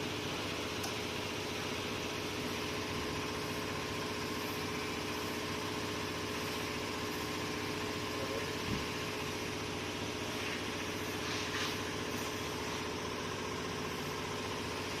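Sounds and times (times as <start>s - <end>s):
electric motor humming: 0.0s - 15.0s.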